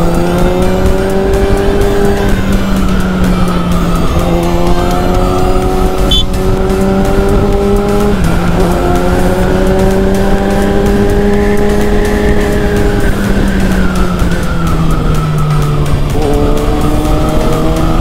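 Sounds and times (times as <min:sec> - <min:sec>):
motorcycle engine accelerating: 0:00.0 - 0:18.0
rushing wind: 0:00.0 - 0:18.0.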